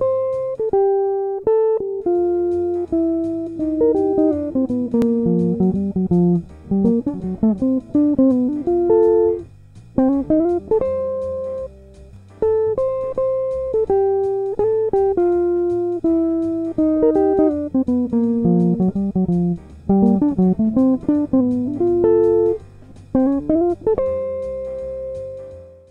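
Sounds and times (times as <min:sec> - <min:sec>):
electric guitar jazz lines: 0:00.0 - 0:25.9
low bass line: 0:02.0 - 0:25.9.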